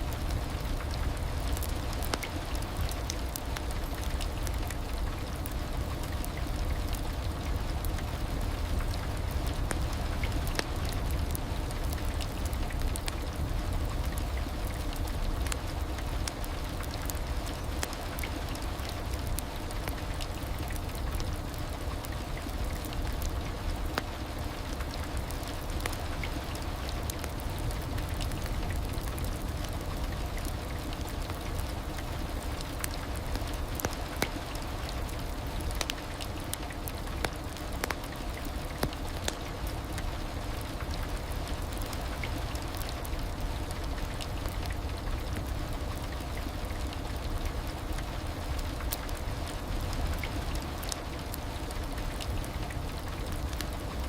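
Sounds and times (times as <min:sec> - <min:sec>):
sharp raindrop ticks: 0:00.0 - 0:54.0.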